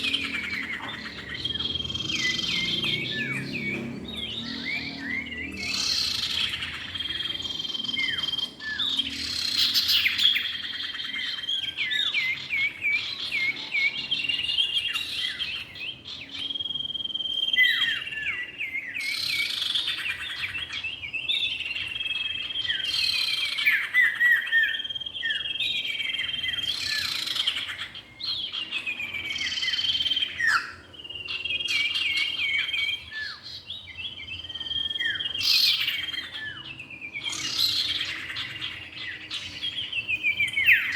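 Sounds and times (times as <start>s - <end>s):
birds calling with whistles: 0.0s - 40.9s.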